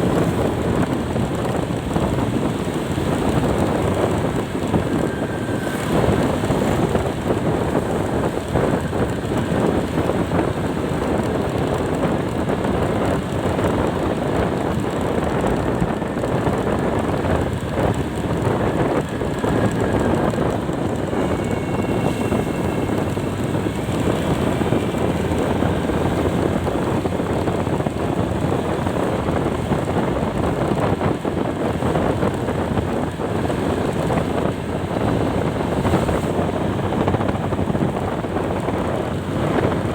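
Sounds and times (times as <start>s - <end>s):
vehicle running and road noise: 0.0s - 39.9s
wind on microphone: 0.0s - 39.9s.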